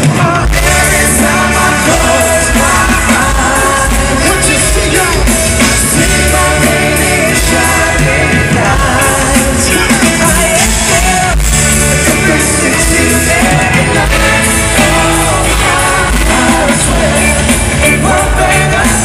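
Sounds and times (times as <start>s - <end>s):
crowd singing along: 0.0s - 19.0s
live pop band over sound system: 0.0s - 19.0s.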